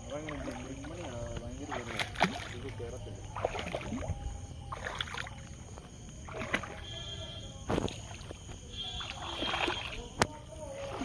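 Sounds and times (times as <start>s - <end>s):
water splashing from wading: 0.0s - 11.0s.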